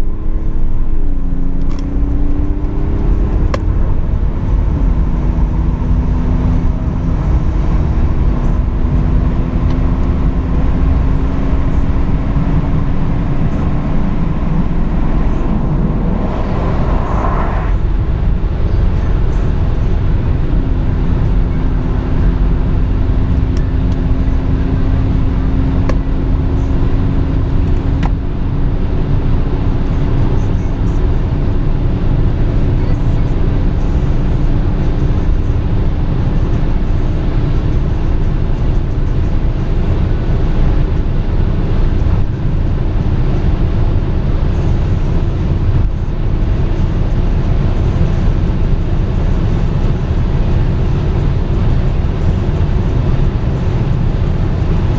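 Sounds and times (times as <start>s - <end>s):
diesel engine pulling hard: 0.0s - 54.9s
wind and road noise: 0.0s - 54.9s.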